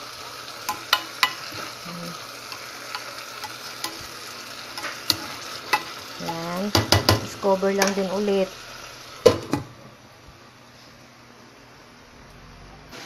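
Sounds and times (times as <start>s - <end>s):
fish sizzling in oil: 0.0s - 11.1s.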